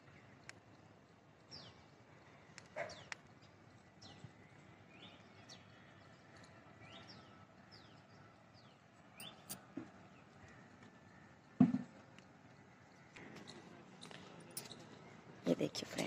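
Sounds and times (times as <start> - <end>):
birds chirping: 0.0 - 16.0
outdoor background noise: 0.0 - 16.0.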